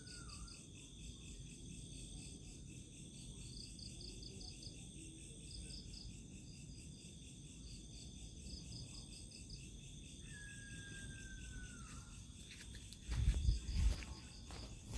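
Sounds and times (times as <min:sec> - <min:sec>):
crickets chirping: 0:00.0 - 0:14.9.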